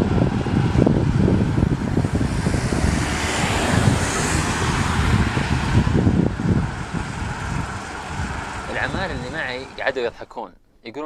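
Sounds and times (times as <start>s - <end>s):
road traffic rumble: 0.0s - 10.4s.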